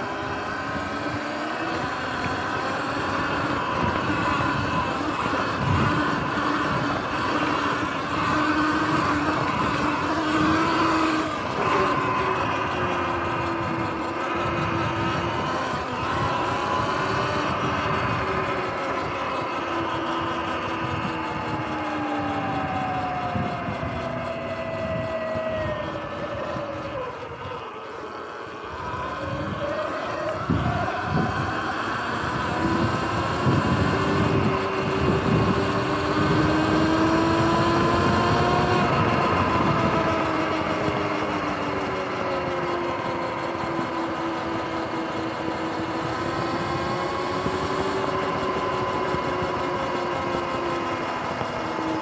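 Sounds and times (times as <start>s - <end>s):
electric motorbike motor whining: 0.0s - 52.0s
tyres and wind rumble: 0.0s - 52.0s.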